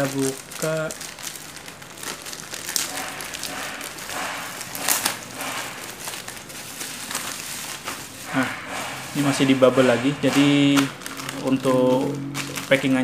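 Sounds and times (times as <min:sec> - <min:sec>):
plastic mailer crinkling and tearing: 0:00.0 - 0:08.5, 0:10.0 - 0:13.0.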